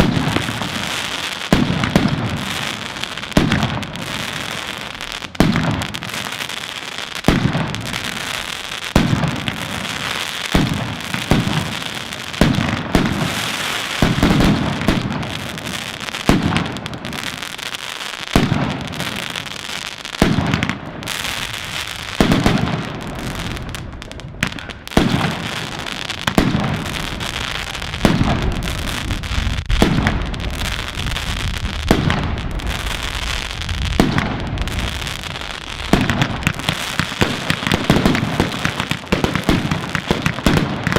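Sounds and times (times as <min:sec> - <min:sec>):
firecrackers crackling: 0:00.0 - 0:40.9
fireworks bangs: 0:00.0 - 0:40.9.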